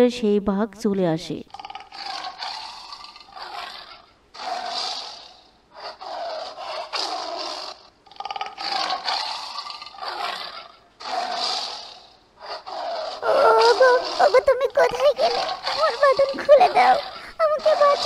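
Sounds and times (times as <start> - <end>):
tiger growling: 1.5 - 18.0.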